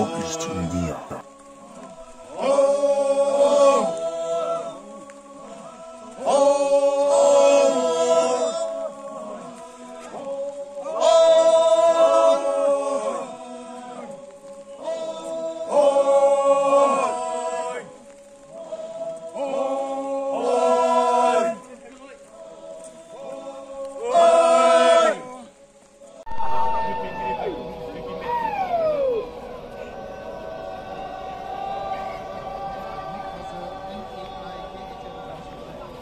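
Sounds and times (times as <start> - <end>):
men chanting together: 0.0 - 26.2, 27.6 - 36.0.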